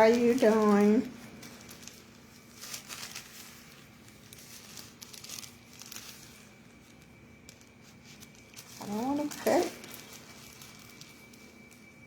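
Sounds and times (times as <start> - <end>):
package wrapping crinkling: 0.0 - 12.0.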